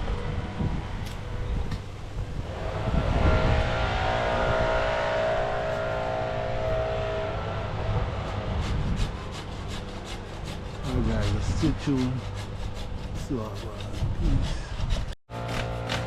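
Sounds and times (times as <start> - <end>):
engine running: 0.0 - 12.8, 15.3 - 16.0.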